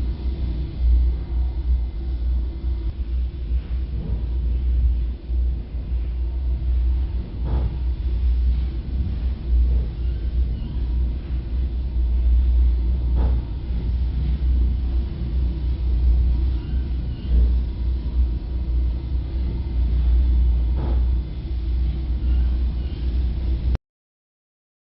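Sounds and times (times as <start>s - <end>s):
low rumble: 0.0s - 23.8s.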